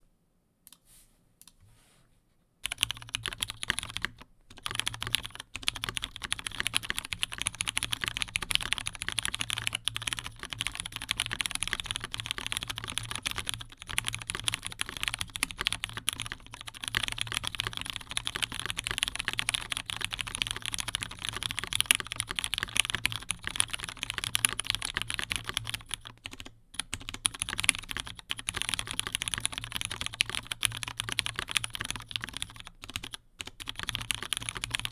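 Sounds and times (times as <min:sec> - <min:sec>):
fast typing on mechanical keyboard: 0:02.6 - 0:34.9.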